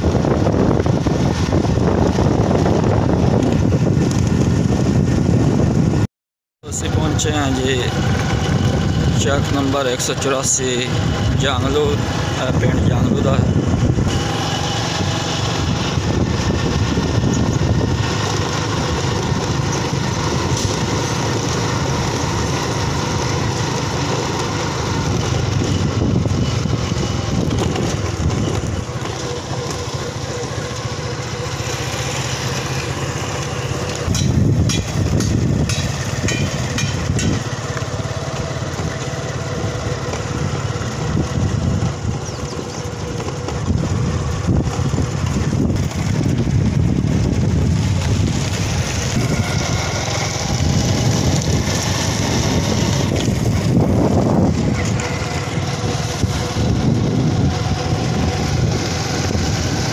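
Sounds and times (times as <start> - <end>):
small motorcycle engine running: 0.0 - 6.0, 6.7 - 59.9
wind on microphone: 0.0 - 6.1, 6.8 - 9.7, 10.8 - 29.2, 33.9 - 59.9.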